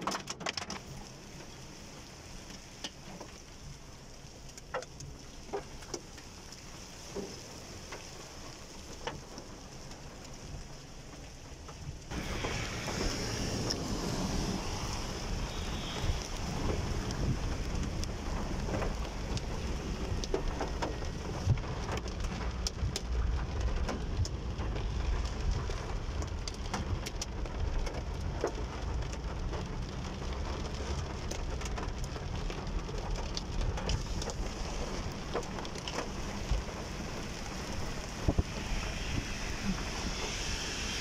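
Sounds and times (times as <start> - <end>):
rain and hail on a car roof: 0.0 - 41.0.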